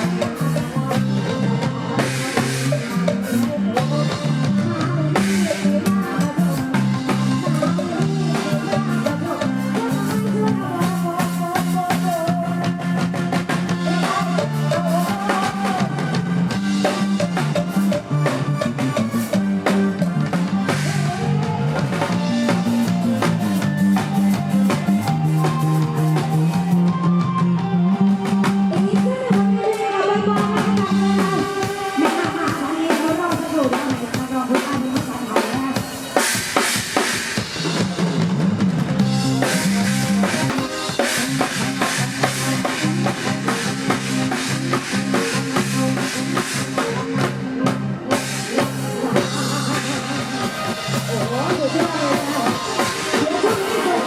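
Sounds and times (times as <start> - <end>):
bass line: 0.0 - 32.6, 37.7 - 54.0
drum kit beat: 0.0 - 54.0
live band dance music: 0.0 - 54.0.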